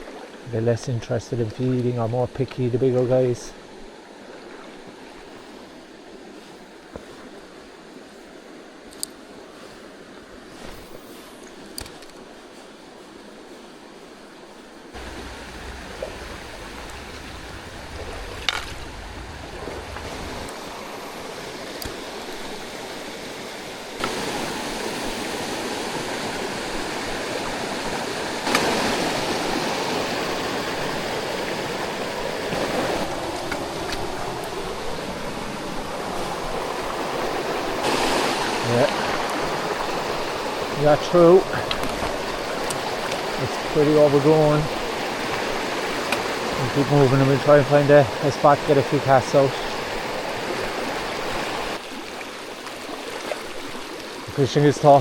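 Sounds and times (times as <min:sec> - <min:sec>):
mountain stream rushing: 0:00.0 - 0:55.0.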